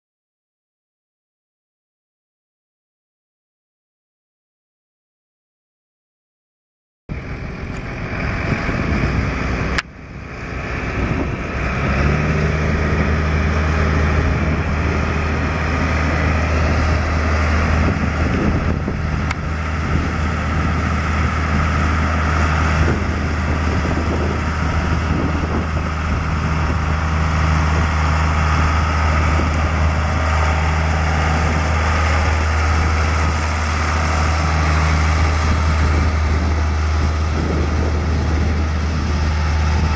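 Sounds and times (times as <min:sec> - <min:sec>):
tractor diesel engine running: 0:07.1 - 0:39.9.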